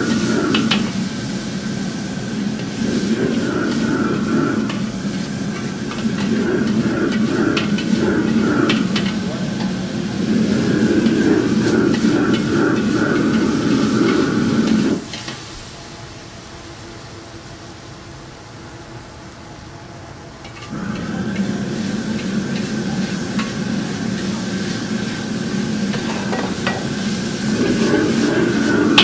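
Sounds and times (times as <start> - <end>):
food sizzling in wok: 0.0 - 18.4, 20.3 - 29.0
gas burner roar: 0.0 - 29.0.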